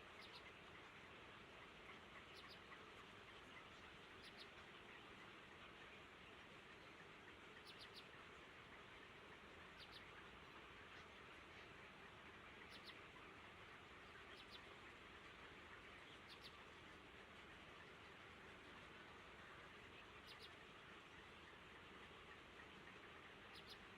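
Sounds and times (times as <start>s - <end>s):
small birds chirping: 0.0s - 23.9s
steady low hiss: 0.0s - 23.9s.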